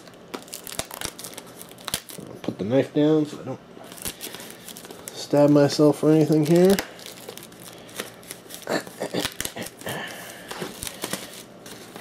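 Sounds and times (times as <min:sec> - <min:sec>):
plastic shrink wrap crinkling: 0:00.0 - 0:02.4, 0:03.8 - 0:12.0.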